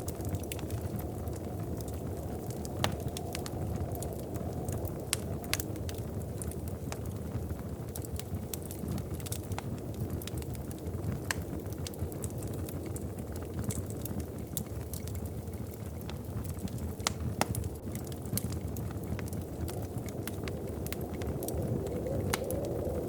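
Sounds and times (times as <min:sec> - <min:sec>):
sharp pops and snaps of fire: 0:00.0 - 0:23.0
wood fire crackling: 0:00.0 - 0:23.0.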